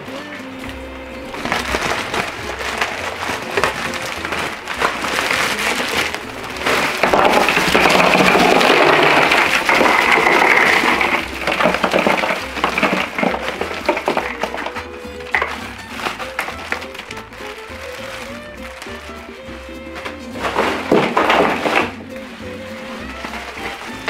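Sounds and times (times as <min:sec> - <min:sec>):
ice cubes pouring into cooler: 0:01.2 - 0:24.0.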